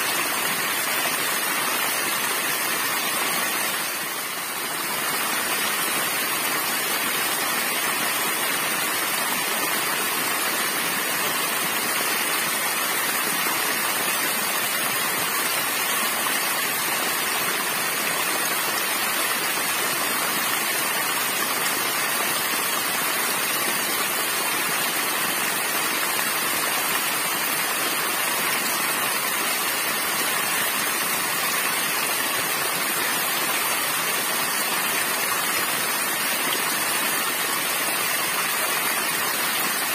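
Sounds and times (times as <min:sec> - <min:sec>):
small waterfall splashing on rock: 0:00.0 - 0:39.9.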